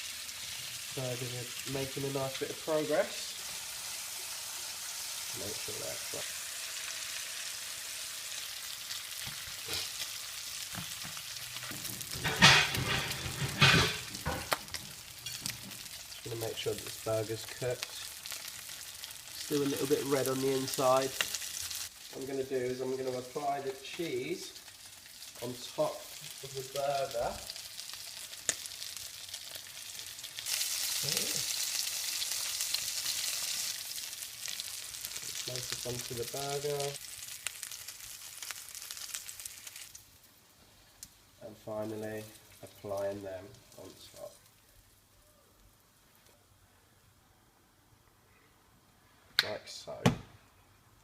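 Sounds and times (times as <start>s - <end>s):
meat sizzling in a frying pan: 0.0s - 45.1s.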